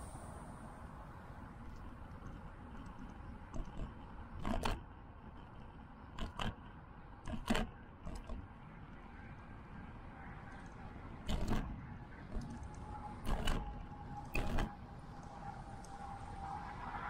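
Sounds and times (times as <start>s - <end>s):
wind and tyre noise: 0.0s - 17.0s.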